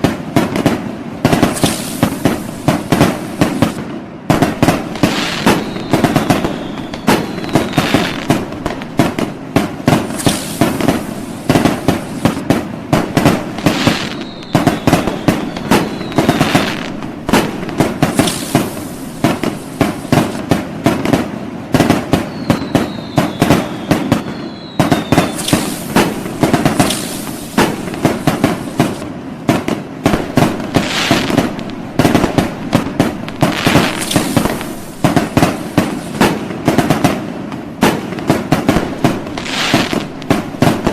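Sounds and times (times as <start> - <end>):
fireworks bangs and crackles: 0.0 - 40.9
falling firework whistles: 0.4 - 37.2, 37.8 - 40.9.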